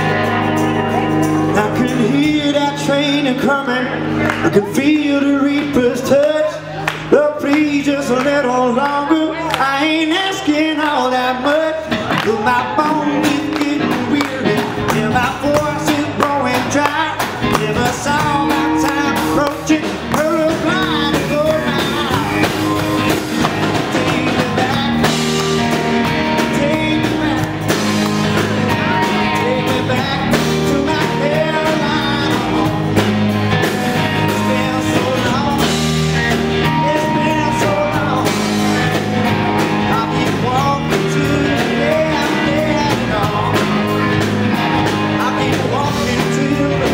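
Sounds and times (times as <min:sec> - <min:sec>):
drum kit: 0:00.0 - 0:46.9
electric bass: 0:00.0 - 0:46.9
electric guitars: 0:00.0 - 0:46.9.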